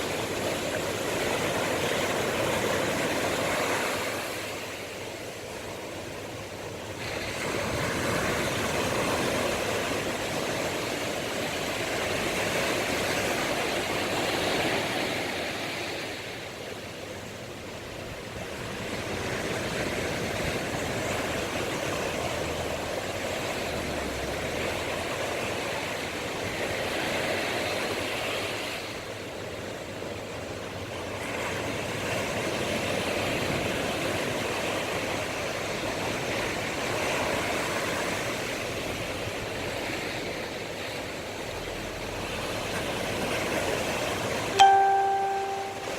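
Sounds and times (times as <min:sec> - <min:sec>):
surf breaking on shore: 0:00.0 - 0:45.9.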